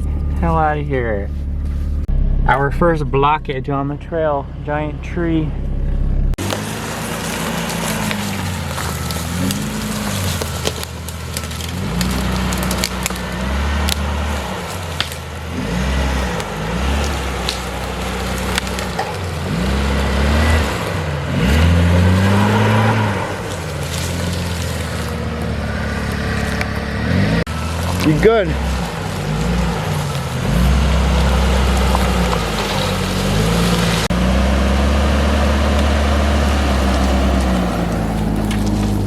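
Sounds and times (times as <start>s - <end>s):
engine revving under load: 5.5s - 39.0s
wood cracking and snapping: 6.4s - 34.3s, 34.9s - 39.0s.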